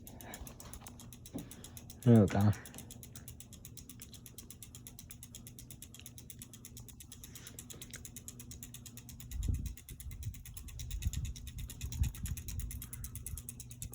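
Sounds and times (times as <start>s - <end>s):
ceiling fan motor hum: 0.0s - 13.9s
fast even ticking: 0.0s - 13.9s.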